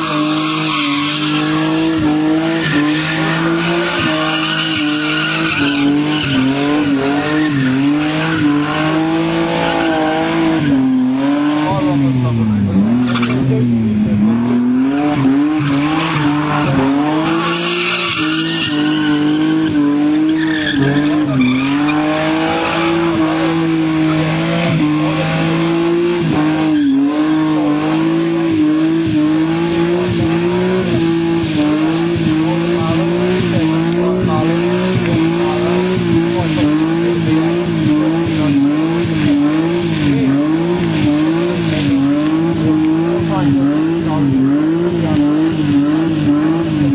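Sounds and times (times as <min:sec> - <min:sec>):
tyres squealing: 0:00.0 - 0:10.9, 0:14.6 - 0:46.6
car engine at high revs: 0:00.0 - 0:46.9.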